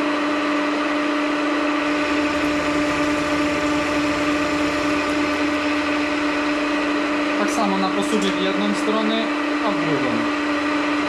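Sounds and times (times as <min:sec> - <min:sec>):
milling machine hum: 0:00.0 - 0:11.0
metal cutting noise: 0:01.7 - 0:11.0.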